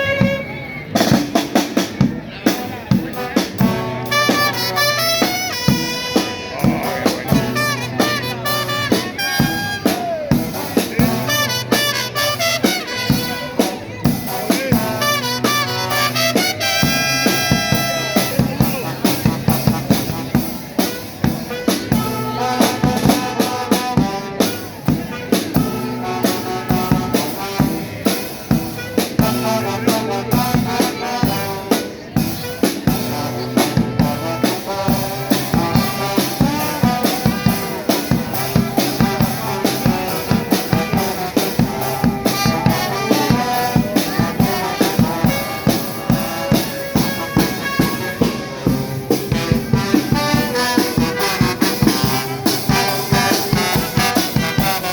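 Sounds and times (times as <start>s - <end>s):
brass melody: 0.0s - 54.9s
drum kit beat: 0.0s - 54.9s.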